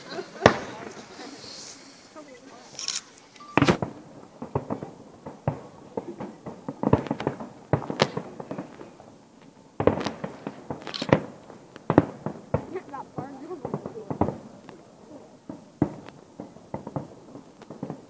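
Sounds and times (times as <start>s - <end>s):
fireworks exploding: 0.0s - 18.0s.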